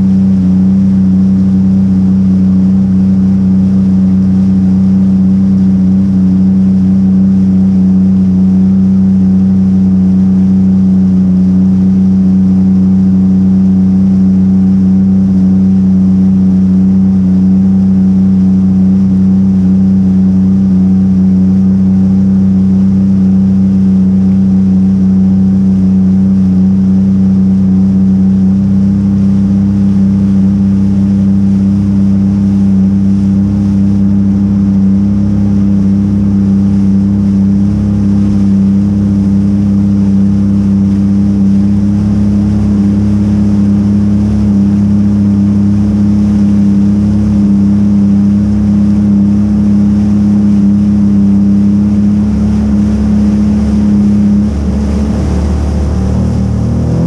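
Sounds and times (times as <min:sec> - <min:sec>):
jet ski engine droning: 0:00.0 - 0:57.0.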